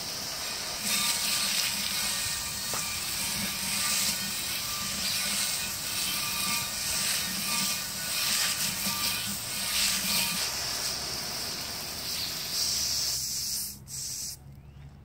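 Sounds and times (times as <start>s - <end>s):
hose water spraying on metal rim: 0.0s - 14.4s.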